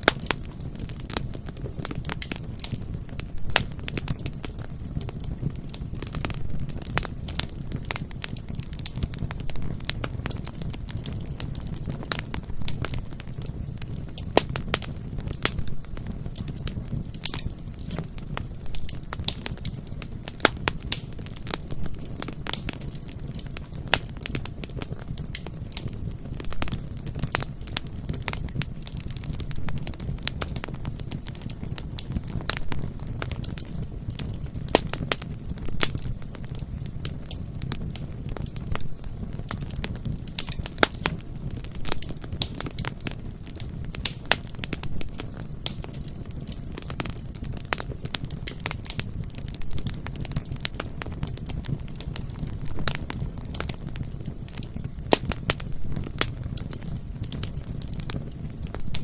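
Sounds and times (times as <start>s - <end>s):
bonfire flames rumbling: 0.0s - 59.0s
burning wood crackling and popping: 0.0s - 59.0s.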